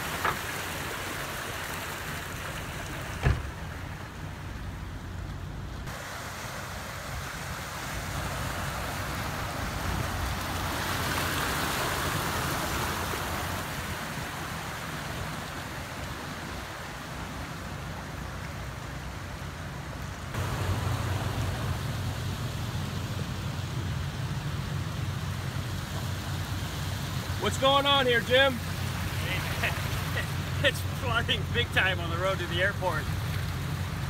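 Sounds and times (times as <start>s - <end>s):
water sloshing around car wheels: 0.0s - 34.0s
low hum over moving water: 0.1s - 27.4s.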